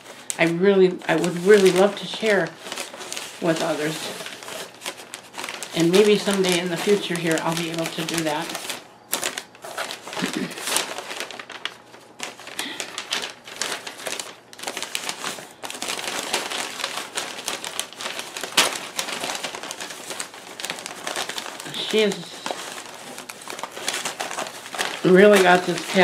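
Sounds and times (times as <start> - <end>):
paper crinkling and rustling: 0.0 - 26.0.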